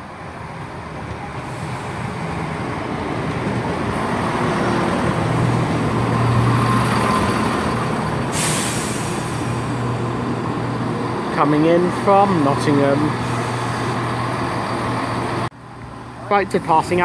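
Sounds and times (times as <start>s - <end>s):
diesel train engine hum: 0.0s - 17.0s.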